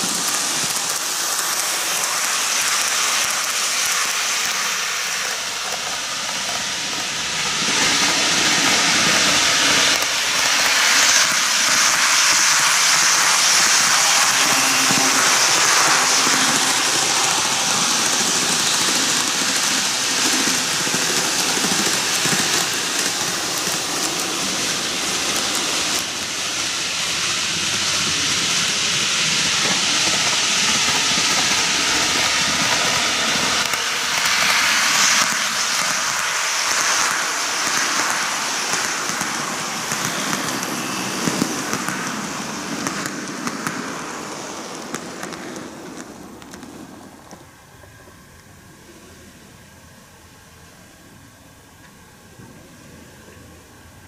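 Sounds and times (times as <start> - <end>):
model trains rolling on track: 0.0 - 54.0.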